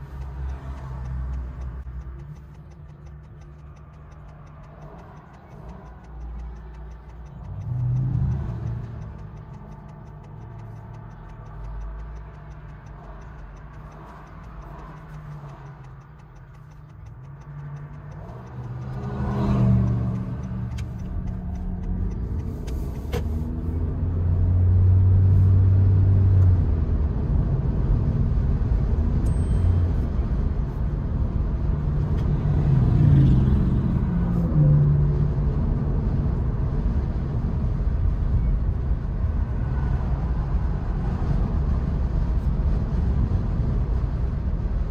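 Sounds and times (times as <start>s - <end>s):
car tyre and wind rumble: 3.8s - 44.9s.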